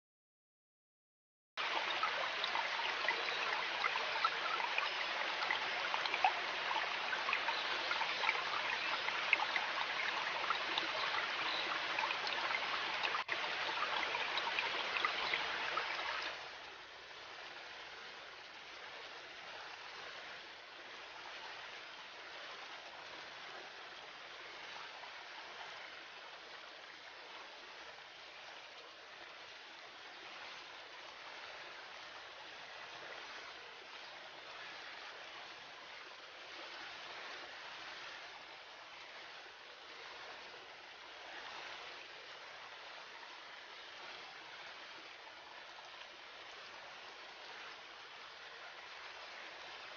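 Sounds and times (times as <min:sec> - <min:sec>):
river water flowing: 0:01.6 - 0:49.9.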